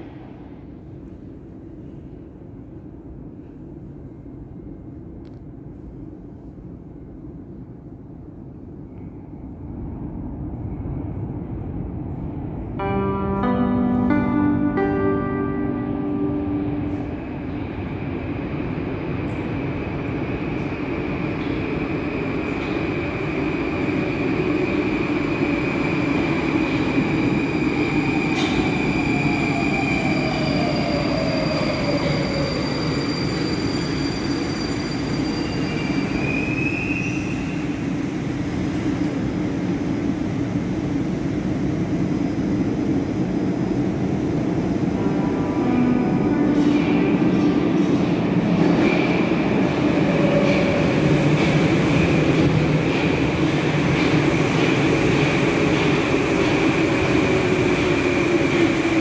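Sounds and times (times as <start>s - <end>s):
falling whine of train slowing: 0.0s - 59.0s
metro train rumbling: 0.0s - 59.0s.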